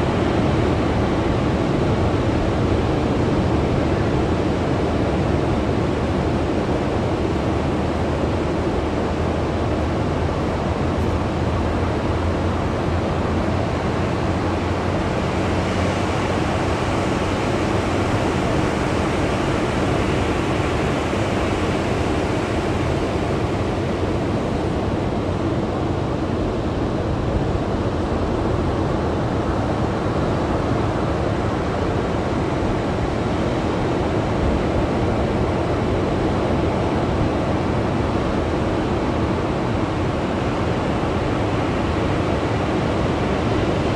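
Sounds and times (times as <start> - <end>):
ocean surf on beach: 0.0 - 43.9.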